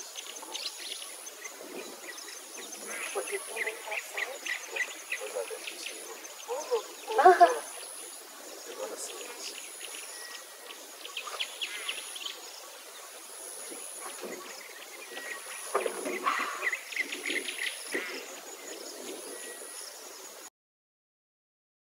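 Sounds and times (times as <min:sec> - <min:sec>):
birds chirping: 0:00.0 - 0:20.4.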